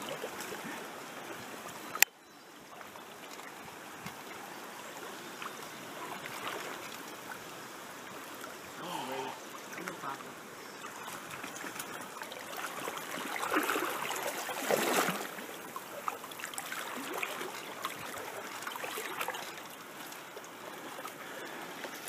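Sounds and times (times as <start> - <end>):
stream rushing water: 0.0 - 22.0.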